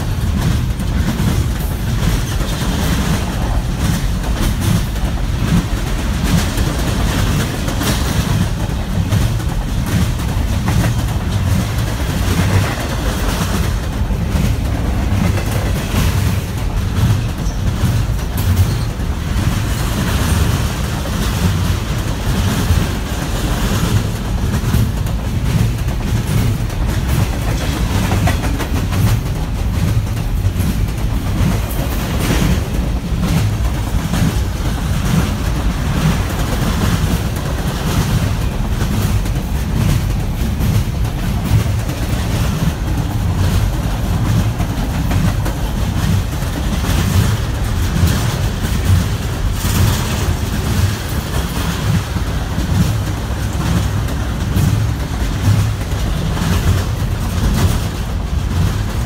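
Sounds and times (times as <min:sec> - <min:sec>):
freight train rumbling past: 0:00.0 - 0:59.0
train wheels clanking: 0:00.0 - 0:59.0.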